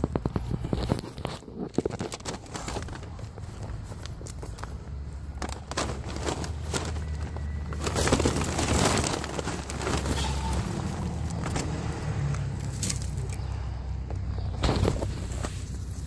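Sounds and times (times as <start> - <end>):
footsteps on grass: 0.0 - 16.0.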